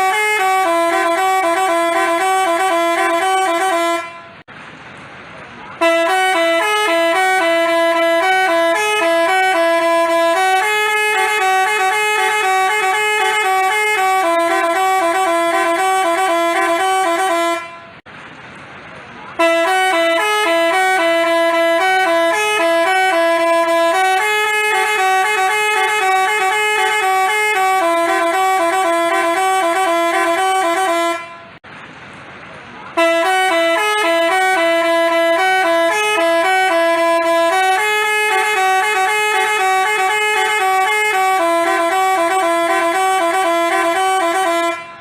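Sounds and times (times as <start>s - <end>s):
multi-tone bus horn playing a tune: 0.0s - 4.5s, 5.6s - 18.1s, 19.3s - 31.6s, 32.9s - 45.0s.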